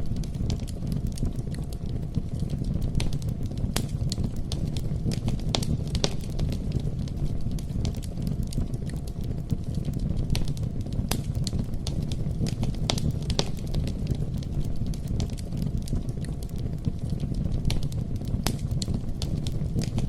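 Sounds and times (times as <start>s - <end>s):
campfire flames rumbling: 0.0s - 20.0s
wood crackling and popping: 0.0s - 20.0s.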